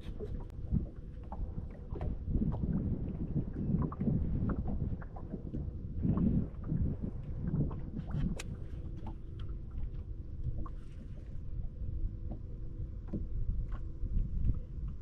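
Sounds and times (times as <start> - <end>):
faint steady hum: 0.0 - 15.0
wind and water against boat: 0.0 - 15.0.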